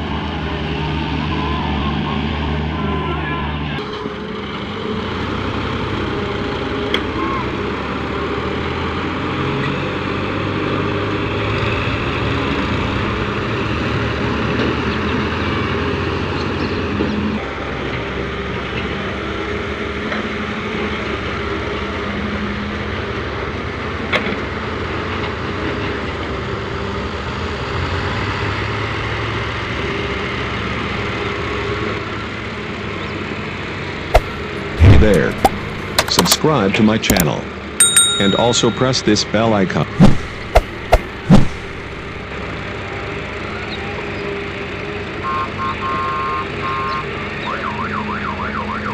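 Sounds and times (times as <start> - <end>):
diesel engines running: 0.0 - 48.9.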